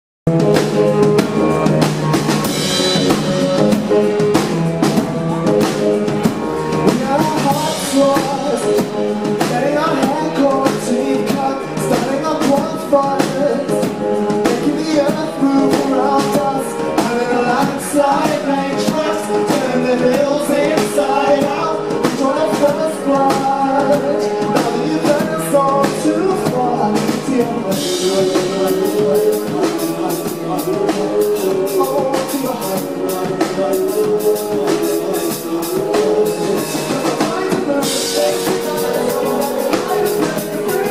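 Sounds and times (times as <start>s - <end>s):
drum kit beat: 0.3s - 40.9s
electric guitar: 0.3s - 40.9s
lead singer singing: 0.3s - 40.9s
backing singers singing: 6.3s - 40.9s.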